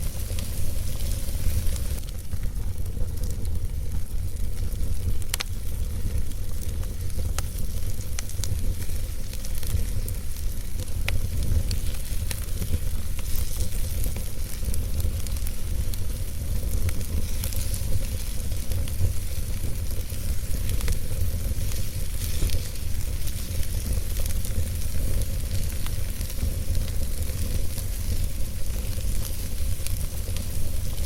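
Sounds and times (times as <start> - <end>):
fire crackles and pops: 0.0 - 31.0
low rumble of flame: 0.0 - 31.0.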